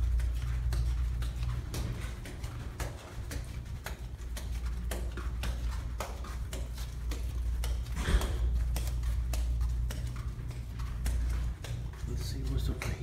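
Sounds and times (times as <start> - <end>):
footsteps on carpet: 0.0 - 13.0.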